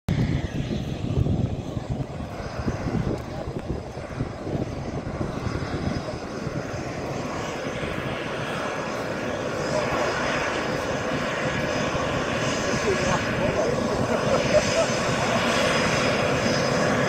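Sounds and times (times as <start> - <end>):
distant jet engine rumble: 0.1 - 17.0.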